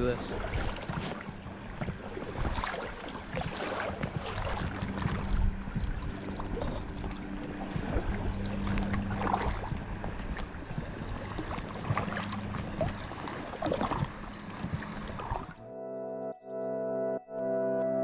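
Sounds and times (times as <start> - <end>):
paddle stroke splashes: 0.0 - 15.6
water sloshing around kayak: 0.0 - 15.7.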